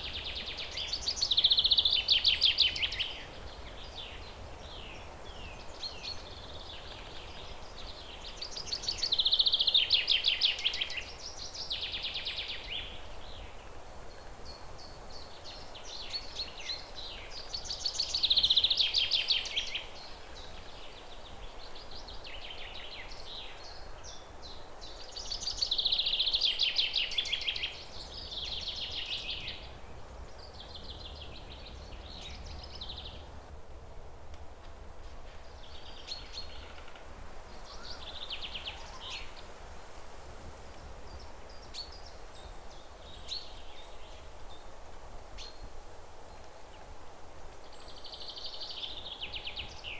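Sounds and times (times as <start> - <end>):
background hiss: 0.0 - 49.9.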